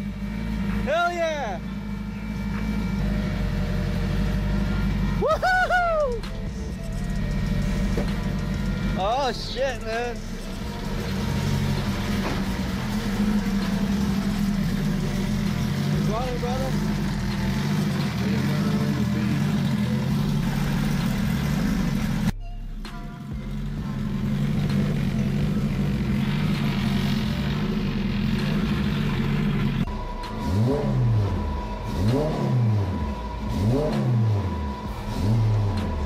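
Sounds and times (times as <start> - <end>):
race car engine revving: 0.0 - 22.4, 23.3 - 36.0
thin steady whine: 0.0 - 33.6.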